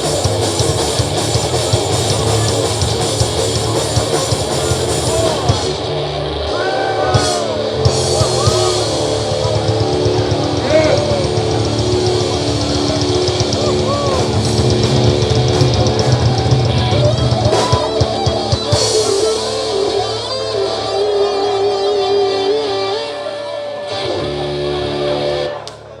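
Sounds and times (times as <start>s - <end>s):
distorted electric guitar: 0.0s - 26.0s
rock band playing: 0.0s - 26.0s.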